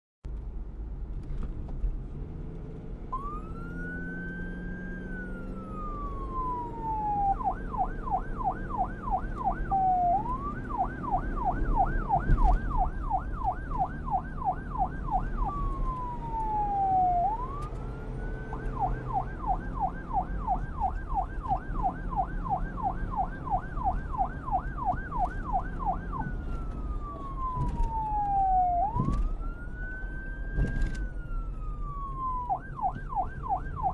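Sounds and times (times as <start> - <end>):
police siren wail and yelp: 3.1 - 33.9.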